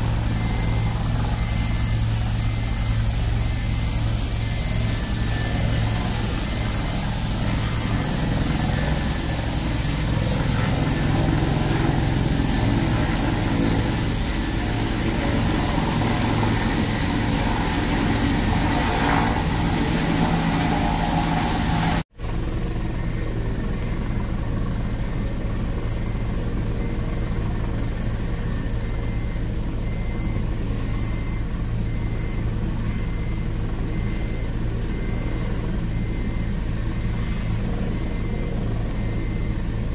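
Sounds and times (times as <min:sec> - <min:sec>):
helicopter turbine and rotors: 0:00.0 - 0:39.9
high turbine whine: 0:00.0 - 0:39.9.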